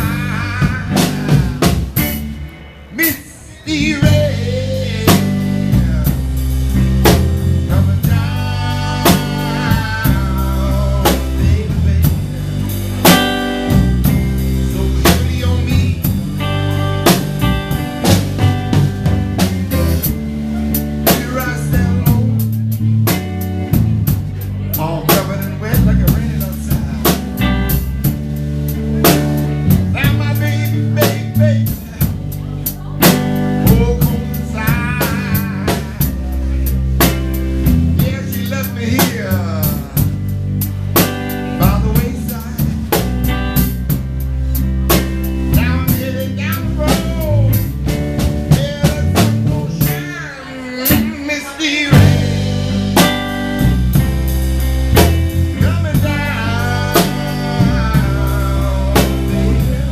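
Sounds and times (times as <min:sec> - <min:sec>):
bass guitar: 0:00.0 - 0:59.9
drum kit steady beat: 0:00.0 - 0:59.9
electric guitar lead with bent notes: 0:00.0 - 0:59.9.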